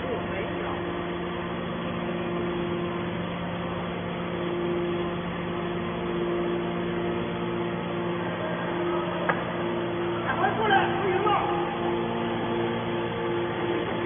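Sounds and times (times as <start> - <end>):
baler motor and pump hum: 0.0 - 14.0
constant tone: 0.0 - 14.0.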